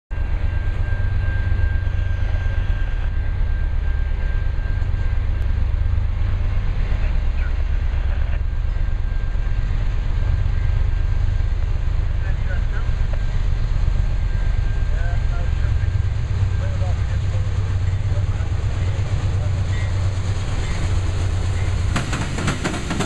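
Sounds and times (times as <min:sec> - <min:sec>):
diesel freight train rumble: 0:00.1 - 0:23.0
faint high whine: 0:00.2 - 0:21.9.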